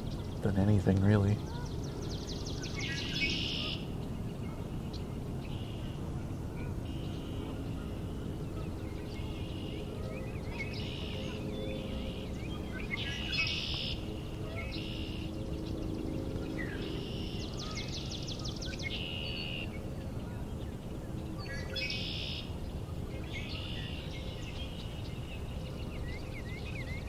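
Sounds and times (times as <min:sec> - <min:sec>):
low background noise: 0:00.0 - 0:27.0
songbirds singing trilled phrases: 0:00.0 - 0:27.0.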